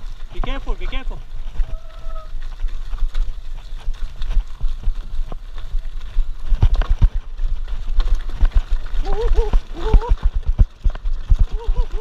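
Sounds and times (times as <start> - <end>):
bike knocks and rattles: 0.0 - 12.0
tyres crunching over gravel: 0.0 - 12.0.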